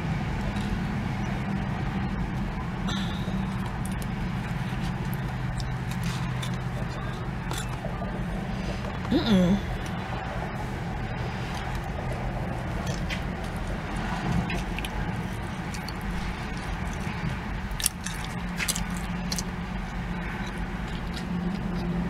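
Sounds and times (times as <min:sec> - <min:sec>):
low hum inside a car: 0:00.0 - 0:22.0
person chewing a burger: 0:02.9 - 0:10.2, 0:11.2 - 0:22.0.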